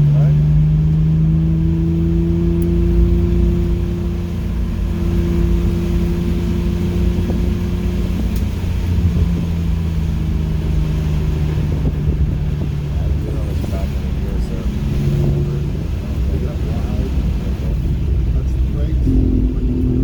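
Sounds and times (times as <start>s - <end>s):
car engine under throttle: 0.0s - 20.0s
tyre and road noise: 0.0s - 20.0s.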